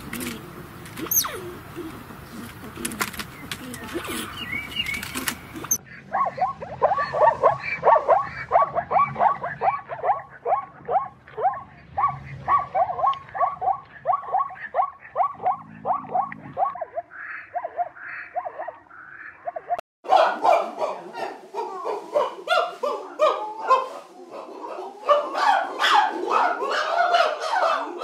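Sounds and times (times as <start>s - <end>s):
zebra barking: 0.0s - 28.0s.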